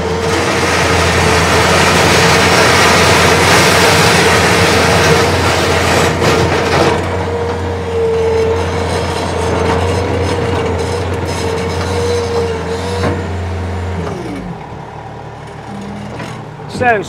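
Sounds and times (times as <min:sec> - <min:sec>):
diesel loader engine revving: 0:00.0 - 0:17.0.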